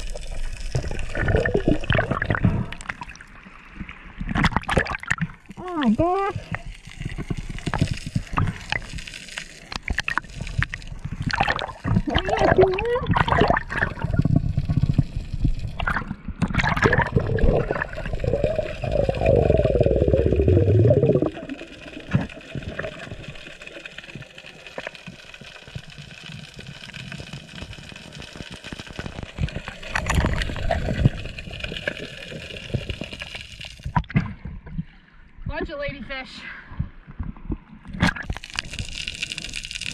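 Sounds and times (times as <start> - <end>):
underwater gurgling and sloshing: 0.0 - 39.9.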